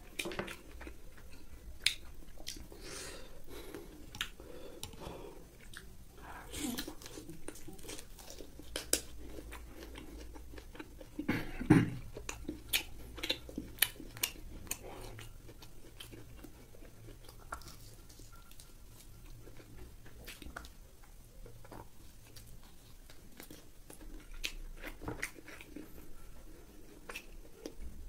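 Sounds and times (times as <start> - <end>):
crunchy chewing of fried pork: 0.0 - 28.0.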